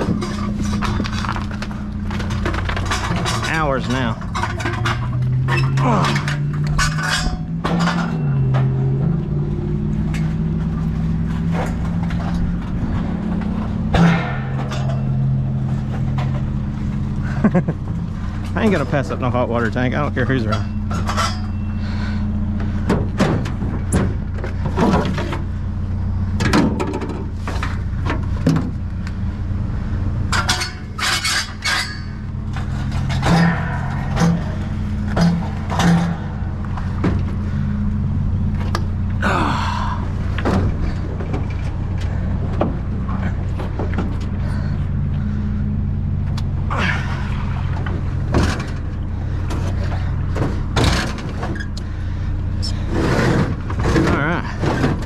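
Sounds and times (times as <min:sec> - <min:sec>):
metal clanks and thumps: 0:00.0 - 0:29.1, 0:30.2 - 0:55.0
vehicle engine idling: 0:00.0 - 0:55.0.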